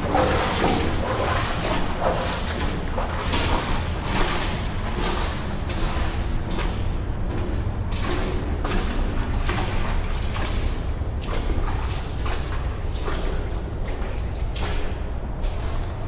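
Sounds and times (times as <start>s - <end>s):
footsteps echoing in a tunnel: 0.0s - 16.0s.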